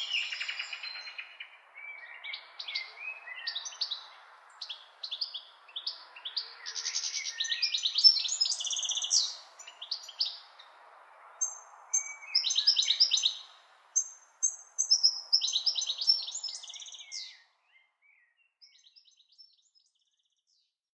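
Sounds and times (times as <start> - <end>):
songbirds chirping and trilling: 0.0 - 20.8.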